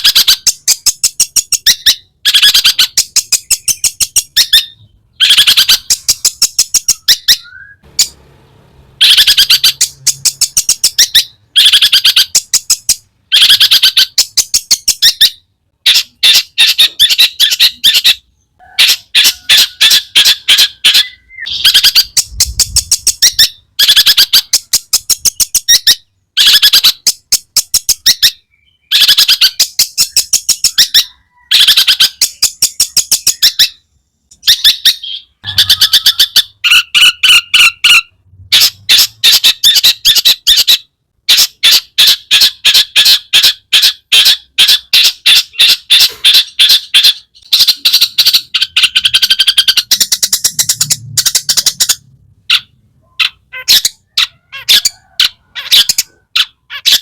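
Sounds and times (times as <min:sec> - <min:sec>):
shrike chattering song: 0:00.0 - 0:57.0.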